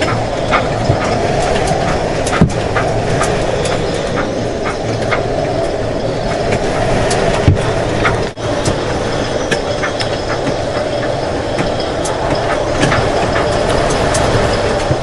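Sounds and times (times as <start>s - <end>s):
boat fittings rattling: 0.0s - 15.0s
high wind roaring: 0.0s - 15.0s.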